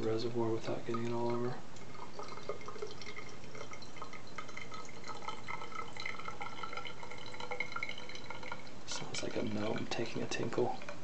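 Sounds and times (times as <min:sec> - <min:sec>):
hot water trickling and splashing: 0:00.1 - 0:11.0.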